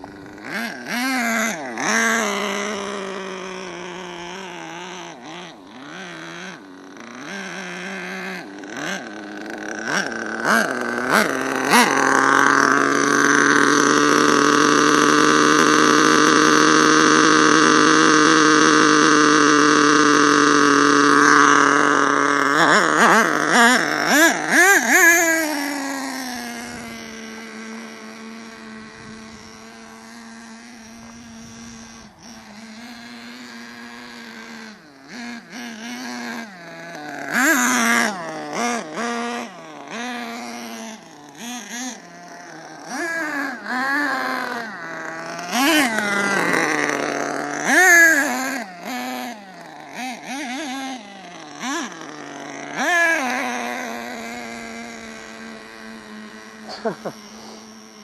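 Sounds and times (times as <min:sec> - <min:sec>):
rc truck engine buzzing: 0:00.0 - 0:58.0.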